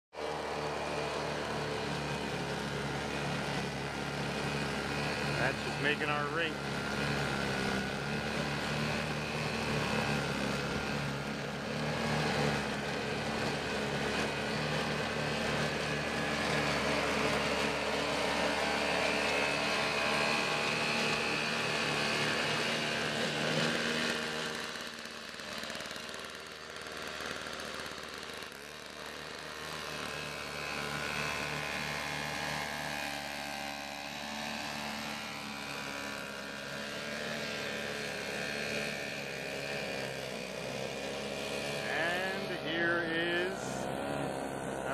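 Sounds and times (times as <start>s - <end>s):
snowblower engine running: 0.2s - 44.9s.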